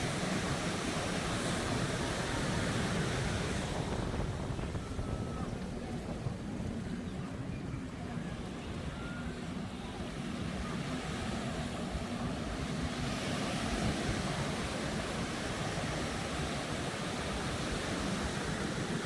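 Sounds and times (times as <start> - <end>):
ocean surf washing: 0.0 - 19.0
wind buffeting microphone: 0.0 - 19.0.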